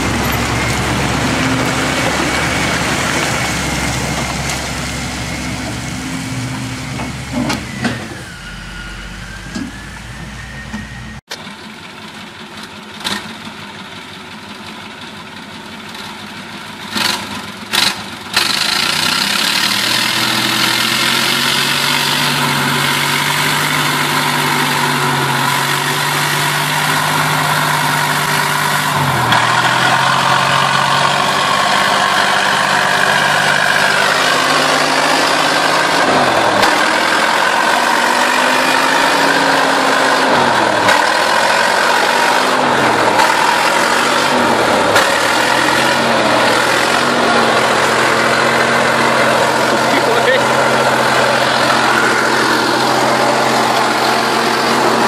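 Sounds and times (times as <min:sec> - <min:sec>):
heavy truck engine working hard: 0:00.0 - 0:55.0.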